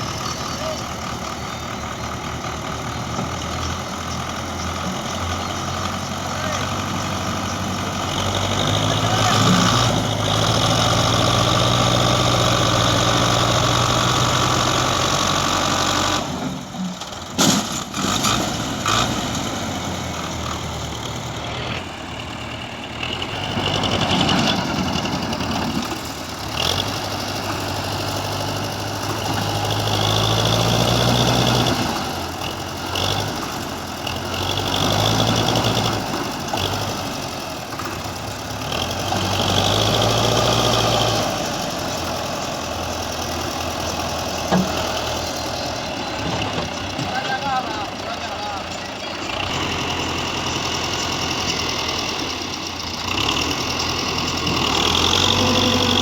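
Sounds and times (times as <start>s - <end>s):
heavy vehicle engine running: 0.0s - 56.0s.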